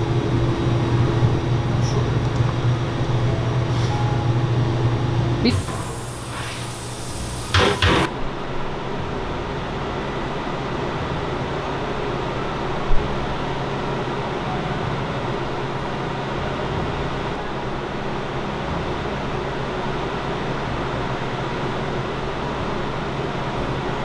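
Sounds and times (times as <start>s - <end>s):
refrigerator fan and compressor hum: 0.0s - 24.0s.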